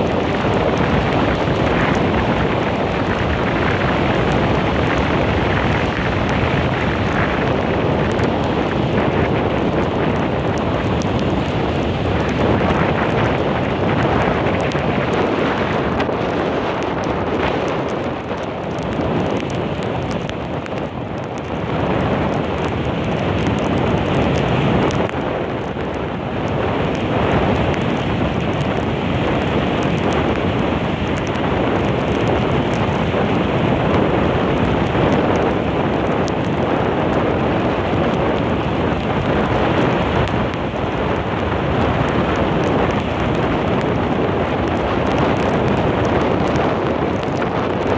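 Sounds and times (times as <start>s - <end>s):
heavy surf breaking: 0.0s - 47.9s
wind buffeting microphone: 0.0s - 47.9s.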